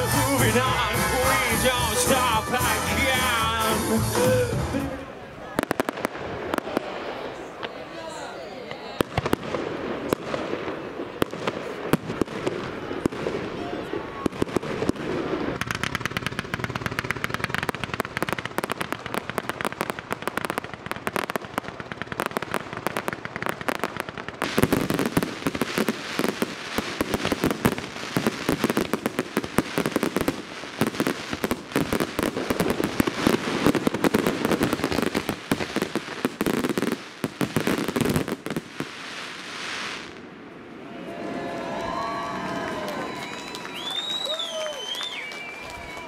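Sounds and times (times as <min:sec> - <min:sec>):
fireworks crackling and popping: 0:00.0 - 0:40.5, 0:42.0 - 0:46.0.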